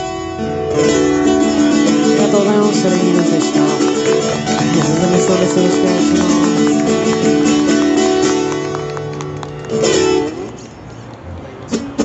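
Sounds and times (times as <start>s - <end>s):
guitar chords: 0.0s - 10.3s.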